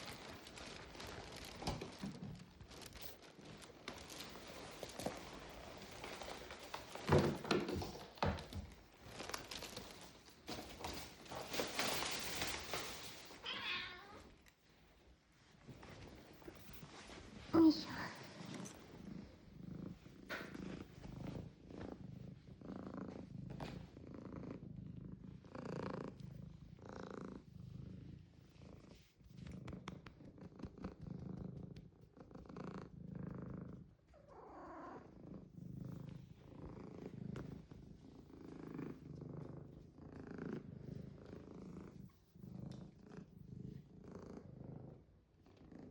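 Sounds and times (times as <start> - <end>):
cat purring: 0.0 - 45.9.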